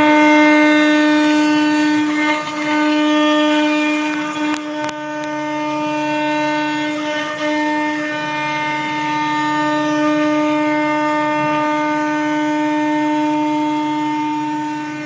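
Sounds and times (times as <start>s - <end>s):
rough cutting noise: 0.0s - 15.0s
router spindle whine: 0.0s - 15.0s.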